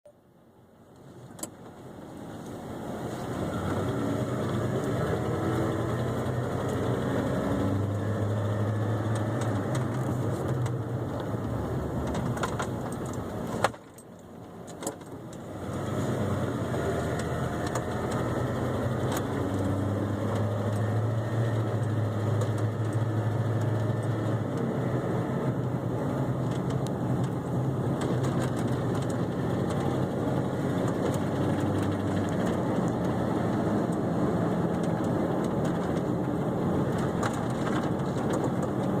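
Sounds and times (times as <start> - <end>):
pickup engine and road noise: 0.1 - 39.0.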